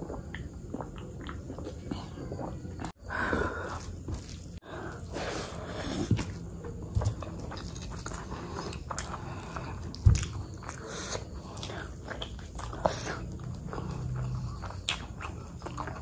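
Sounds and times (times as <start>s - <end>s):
close chewing: 0.0s - 3.0s, 3.6s - 16.0s.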